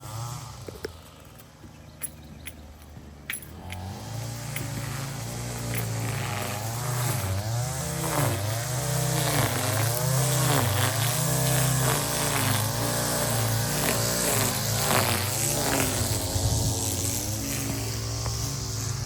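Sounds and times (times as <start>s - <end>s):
engine running under varying load: 0.0s - 19.0s.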